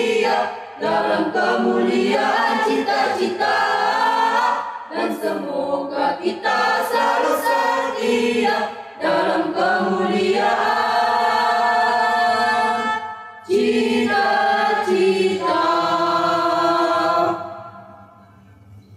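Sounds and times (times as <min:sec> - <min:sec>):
children's choir singing march: 0:00.0 - 0:17.6.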